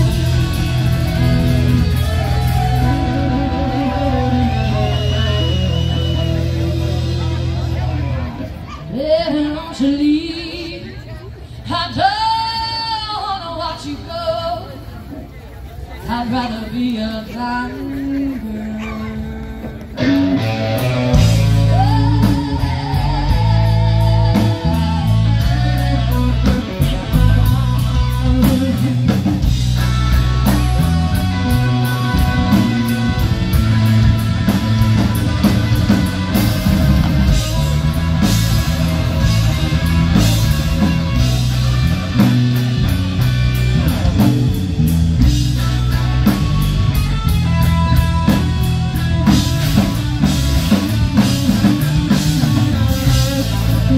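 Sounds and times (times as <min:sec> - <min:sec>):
rock band playing: 0:00.0 - 0:10.0, 0:19.0 - 0:53.9.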